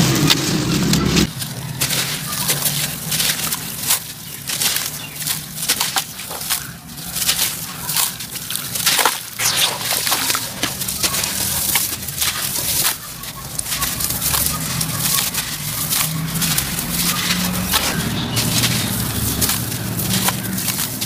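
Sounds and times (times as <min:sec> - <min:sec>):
sand-cement chunks crunching: 0:00.0 - 0:21.0.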